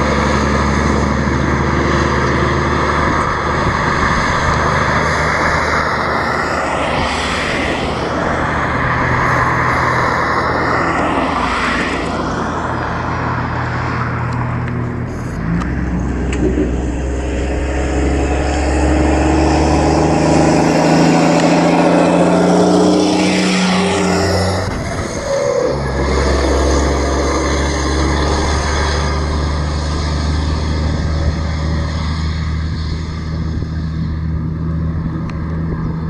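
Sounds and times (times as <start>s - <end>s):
propeller aircraft engines droning: 0.0s - 36.0s.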